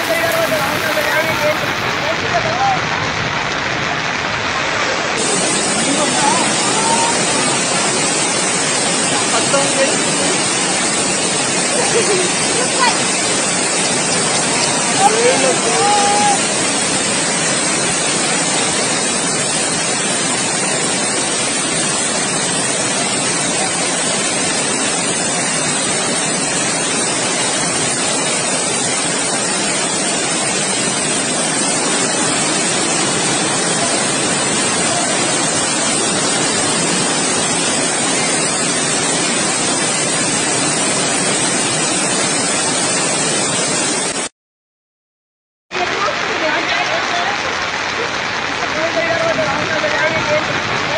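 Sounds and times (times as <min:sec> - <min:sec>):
floodwater rushing: 0:00.0 - 0:44.3, 0:45.7 - 0:50.9.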